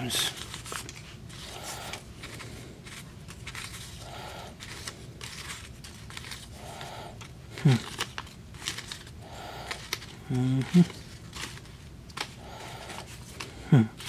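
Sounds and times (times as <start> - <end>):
paper wrappers rustling: 0.0 - 14.0.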